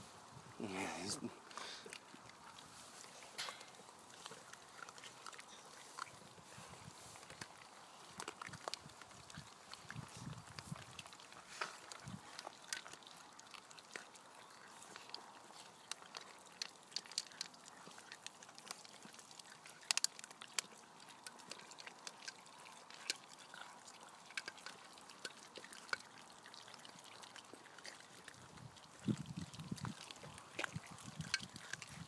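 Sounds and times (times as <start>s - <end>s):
puppies chewing and licking: 0.6s - 32.0s.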